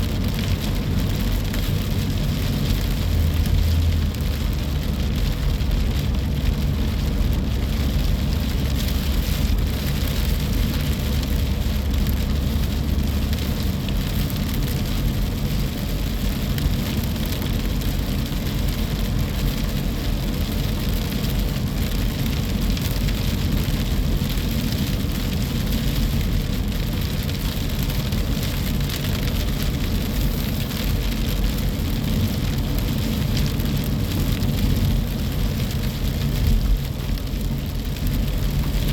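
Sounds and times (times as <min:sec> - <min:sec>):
heavy low rumble: 0:00.0 - 0:38.9
wind and rain: 0:00.0 - 0:38.9.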